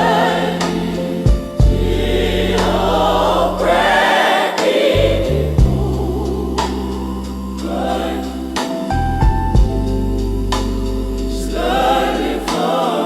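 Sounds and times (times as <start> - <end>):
gospel choir singing: 0.0 - 13.0
instrumental accompaniment: 0.0 - 13.0.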